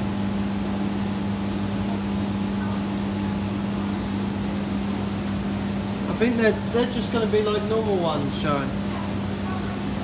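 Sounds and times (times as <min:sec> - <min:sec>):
aquarium pumps humming: 0:00.0 - 0:10.0.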